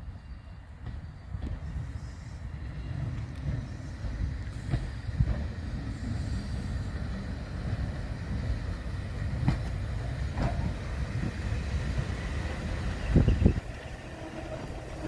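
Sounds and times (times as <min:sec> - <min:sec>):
train engines rumbling: 0:00.0 - 0:15.0.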